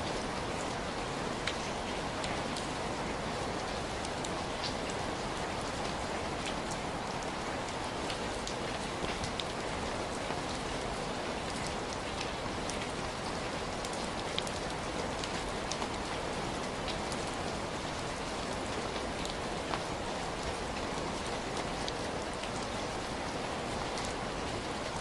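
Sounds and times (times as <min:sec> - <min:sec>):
raindrops ticking on a surface: 0:00.0 - 0:25.0.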